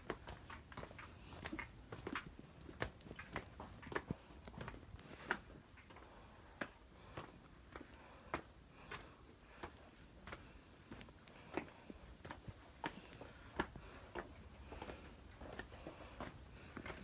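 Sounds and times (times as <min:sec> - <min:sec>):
footsteps clicking: 0:00.0 - 0:17.0
insects trilling: 0:00.0 - 0:17.0.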